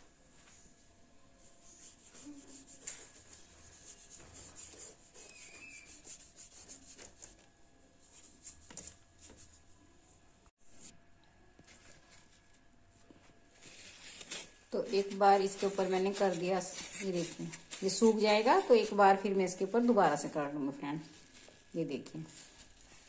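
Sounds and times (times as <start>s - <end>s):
paintbrush brushing on plastic: 1.4s - 9.8s, 11.6s - 20.3s, 21.0s - 23.0s.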